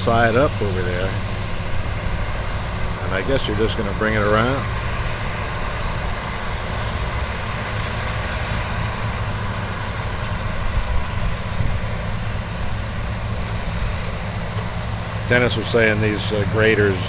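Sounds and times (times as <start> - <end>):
heavy machinery engines rumbling: 0.0 - 17.0.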